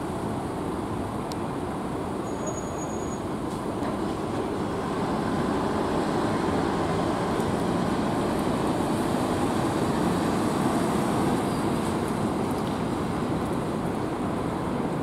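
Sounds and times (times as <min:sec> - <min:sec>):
diesel buses driving past: 0:00.0 - 0:15.0.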